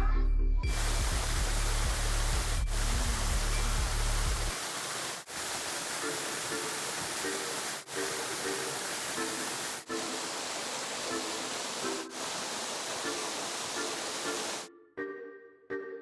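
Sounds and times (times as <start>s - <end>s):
background music: 0.0s - 4.6s, 5.8s - 16.0s
waterfall rushing: 0.7s - 14.7s.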